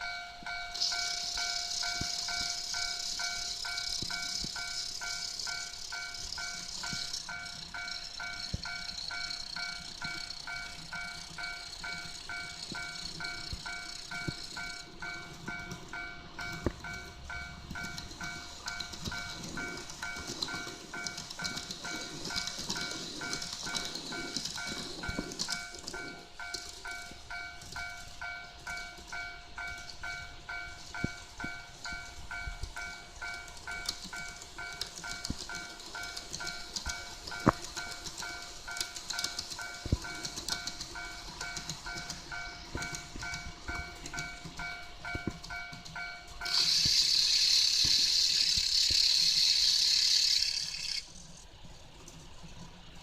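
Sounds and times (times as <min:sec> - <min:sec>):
crossing warning bell dinging: 0:00.0 - 0:51.0
model train running on track: 0:00.0 - 0:53.0.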